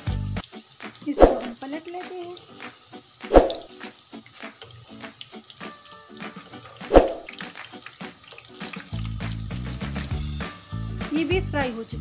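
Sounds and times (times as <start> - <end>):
music: 0.0 - 12.0
oil crackling while deep-frying: 0.0 - 12.0.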